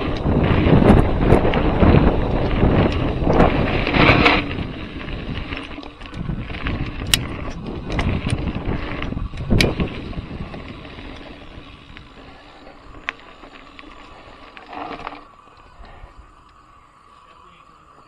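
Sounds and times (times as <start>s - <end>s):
bike tyre rumble on dirt: 0.0s - 18.0s.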